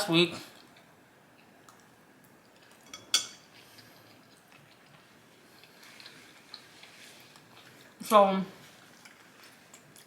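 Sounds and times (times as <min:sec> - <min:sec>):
quiet eating sounds: 0:00.0 - 0:10.0.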